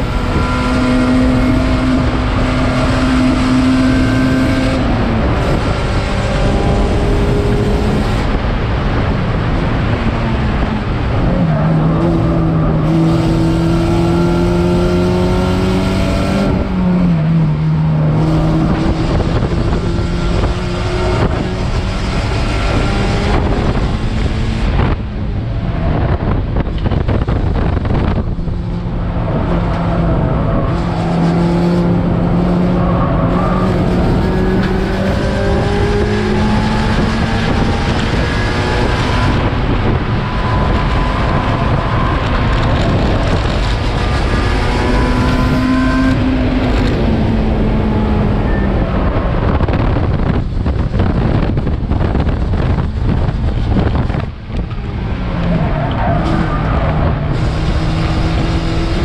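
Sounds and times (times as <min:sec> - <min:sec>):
race car engine running hard: 0:00.0 - 0:59.0
road and wind noise: 0:00.0 - 0:59.0.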